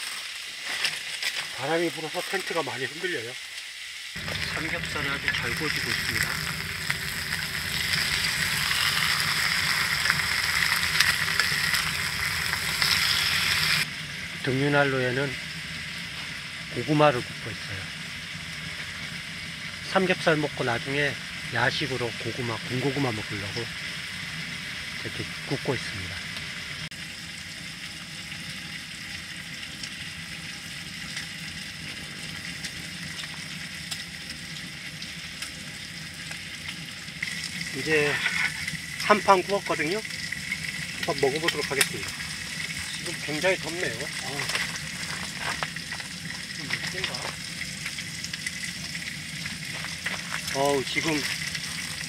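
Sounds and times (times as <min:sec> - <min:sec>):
pork sizzling with pops: 0:00.0 - 0:52.0
low steady hum: 0:04.2 - 0:52.0.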